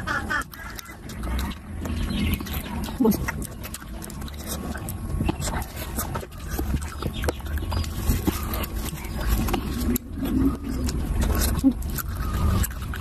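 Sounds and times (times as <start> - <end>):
person chewing and lip-smacking: 0.0 - 13.0.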